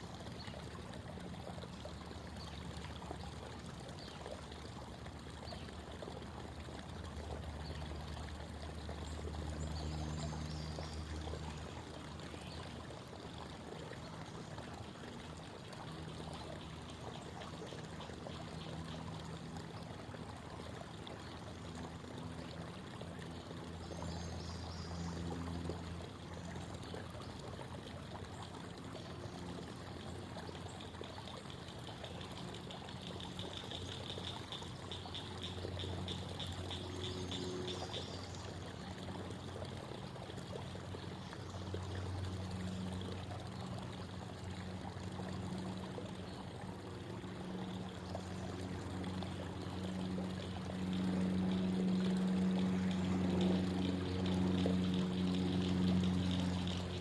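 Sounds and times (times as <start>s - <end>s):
creek water babbling over stones: 0.0s - 57.0s.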